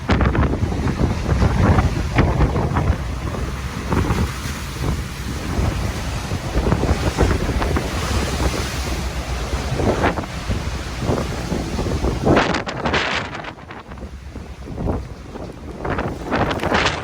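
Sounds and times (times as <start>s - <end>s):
rough sea waves roaring: 0.0s - 17.0s
wind buffeting microphone: 0.0s - 17.0s.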